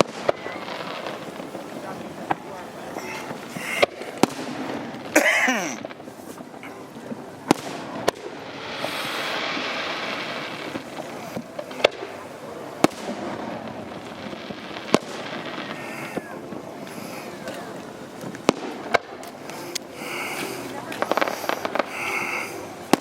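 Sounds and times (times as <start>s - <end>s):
fireworks bangs: 0.0s - 23.0s
hissing crackle: 0.0s - 23.0s.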